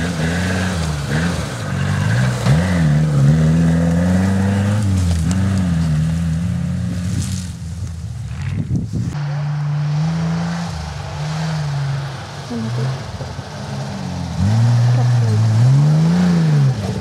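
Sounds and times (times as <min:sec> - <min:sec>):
off-road engine revving: 0:00.0 - 0:17.0.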